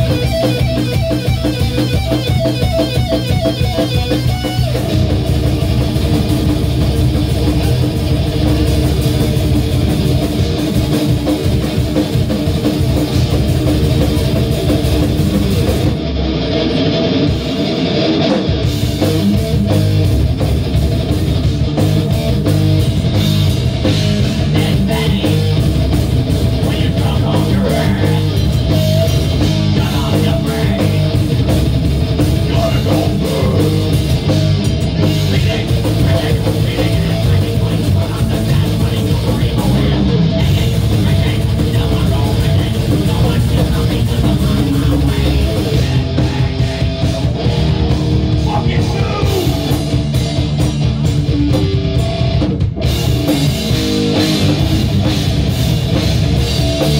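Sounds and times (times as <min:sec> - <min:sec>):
heavy metal band playing live: 0:00.0 - 0:56.9.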